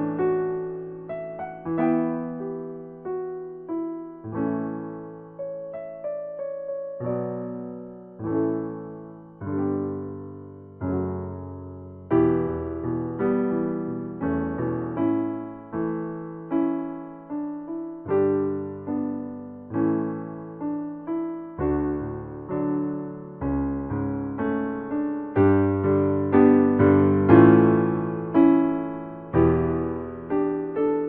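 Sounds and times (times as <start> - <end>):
slow piano music: 0.0 - 31.0.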